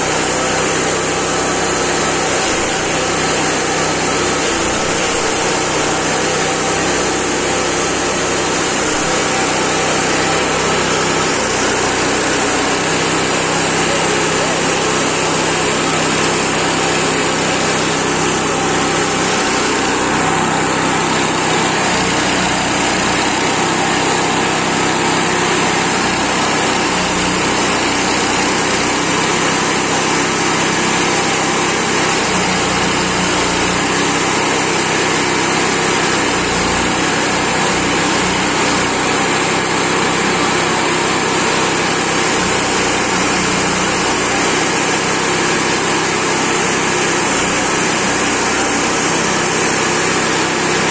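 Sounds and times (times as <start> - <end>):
chipper shredder engine running: 0.0 - 50.9.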